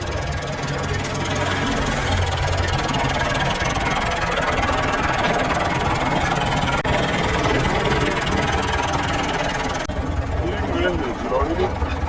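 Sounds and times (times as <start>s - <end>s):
heavy machinery running: 0.0s - 12.0s.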